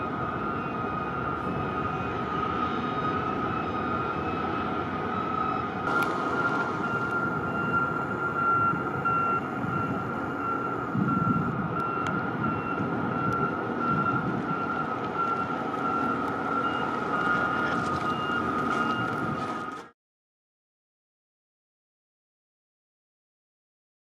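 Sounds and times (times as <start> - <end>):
heavy machinery rumble: 0.0 - 19.9
machinery warning alarm beeping: 0.1 - 19.8.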